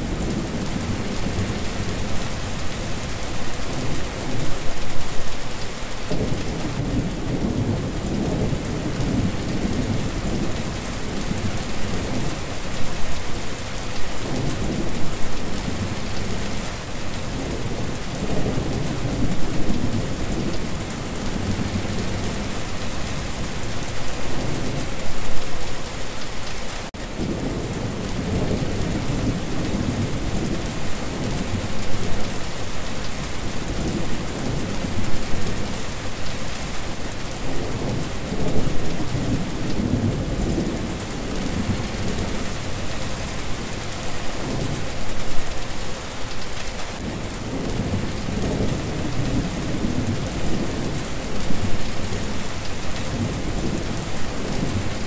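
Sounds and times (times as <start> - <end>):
rain pattering on wet ground: 0.0 - 55.0.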